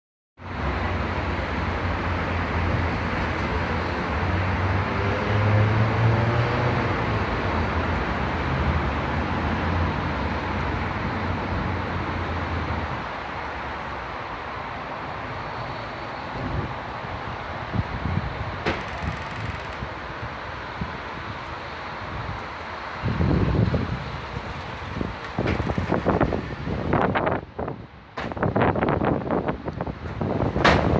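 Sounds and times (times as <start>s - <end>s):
rushing road noise: 0.4s - 30.9s.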